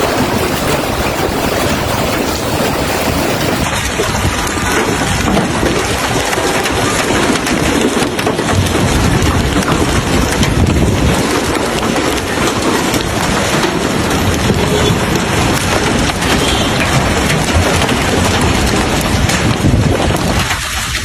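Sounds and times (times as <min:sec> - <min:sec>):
heavy rain pelting hard surfaces: 0:00.0 - 0:21.0.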